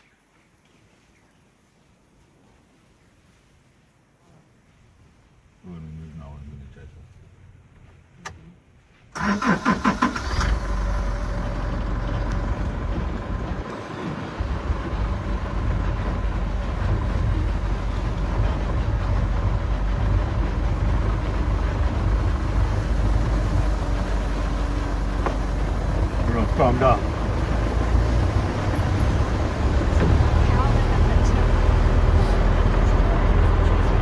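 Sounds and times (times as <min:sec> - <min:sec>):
vehicle engine starting and running: 0:06.0 - 0:34.0.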